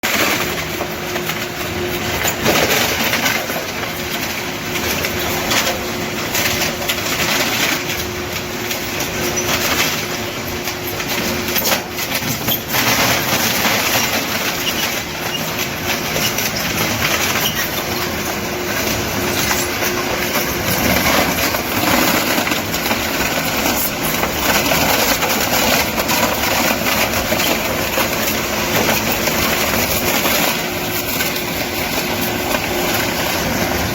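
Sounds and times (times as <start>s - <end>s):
irregular clattering and crackling: 0.0s - 33.9s
styrofoam crushing machine running: 0.0s - 33.9s.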